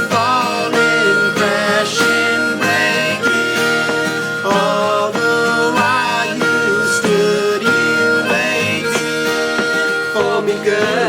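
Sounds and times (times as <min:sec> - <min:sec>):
guitar: 0:00.0 - 0:11.0
harmonica held notes: 0:00.0 - 0:11.0.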